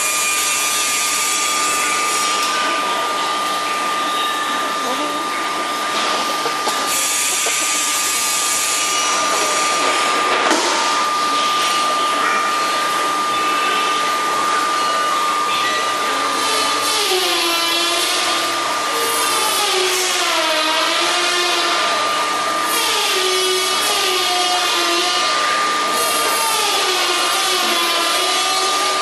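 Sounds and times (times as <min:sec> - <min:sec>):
whirring machine with high whine: 0:00.0 - 0:29.0.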